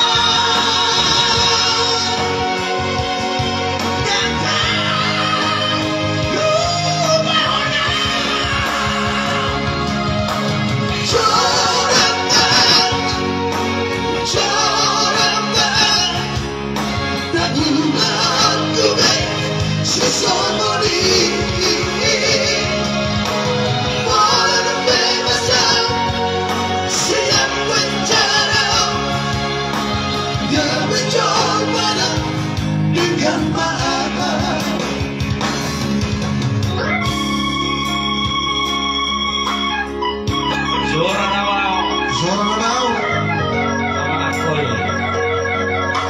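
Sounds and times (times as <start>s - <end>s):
group singing into microphones: 0.0s - 37.4s
amplified backing music: 0.0s - 46.0s.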